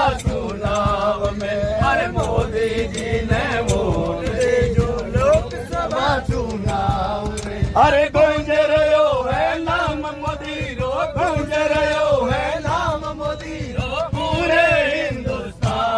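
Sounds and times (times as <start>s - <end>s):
men singing together: 0.0s - 15.9s.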